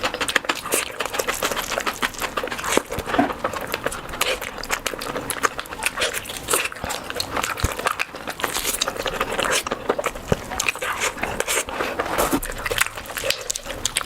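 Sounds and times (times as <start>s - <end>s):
person chewing and mouth smacking: 0.0s - 14.0s.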